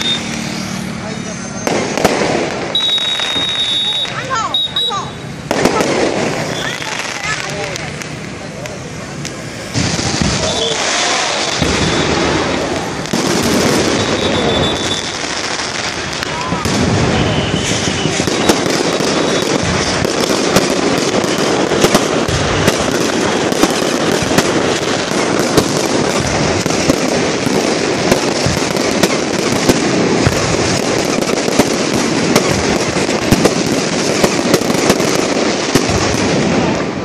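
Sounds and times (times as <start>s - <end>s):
fireworks hissing spray: 0.0s - 37.0s
fireworks pops and crackles: 0.0s - 37.0s.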